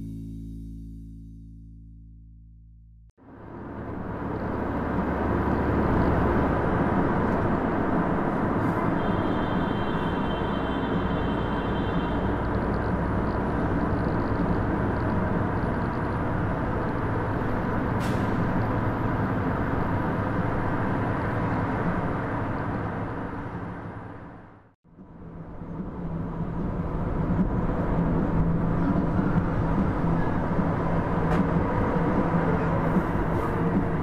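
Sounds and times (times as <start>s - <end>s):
vehicle road and engine noise: 3.1s - 34.0s.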